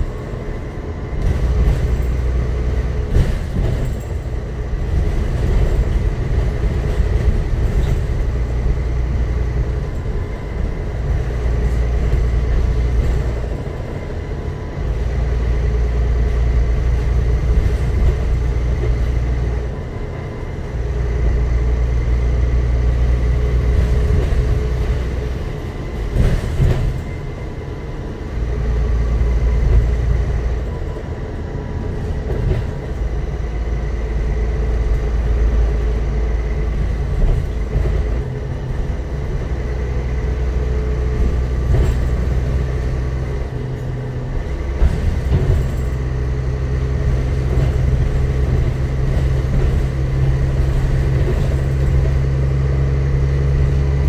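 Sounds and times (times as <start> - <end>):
bus engine and road drone: 0.0 - 54.0.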